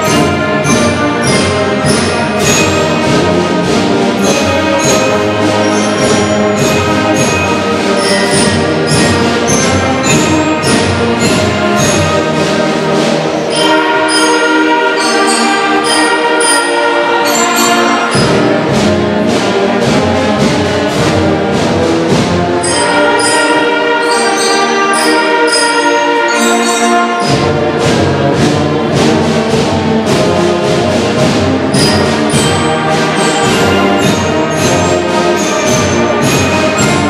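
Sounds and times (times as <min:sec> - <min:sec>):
brass band playing: 0:00.0 - 0:37.0.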